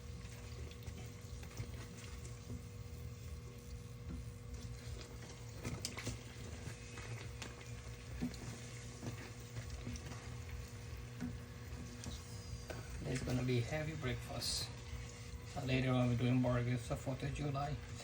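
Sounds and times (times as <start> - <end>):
dough sizzling in oil: 0.0 - 18.0
low steady hum: 0.0 - 18.0.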